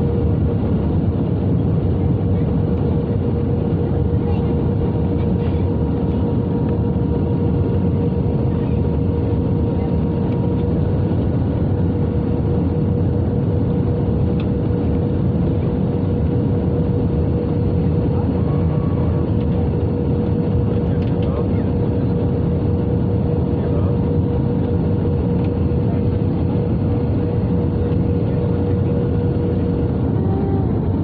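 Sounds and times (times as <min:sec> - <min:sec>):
airplane cabin engine roar: 0:00.0 - 0:31.0
steady hum: 0:03.4 - 0:31.0.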